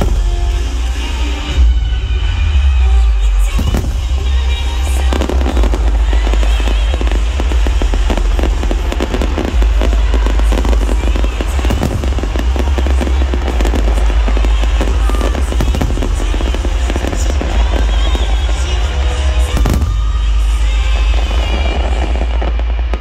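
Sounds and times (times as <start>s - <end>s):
fireworks bursting and crackling: 0.0s - 23.0s
show music: 0.0s - 23.0s.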